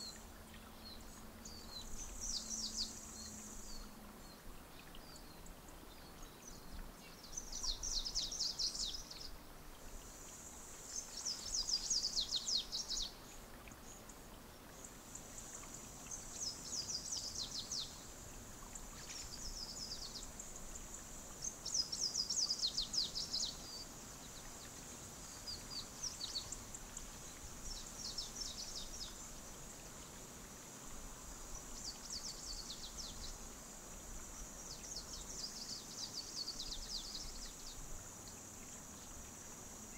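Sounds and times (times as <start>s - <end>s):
songbird singing: 0.0s - 39.9s
steady high-pitched hiss: 0.0s - 39.9s.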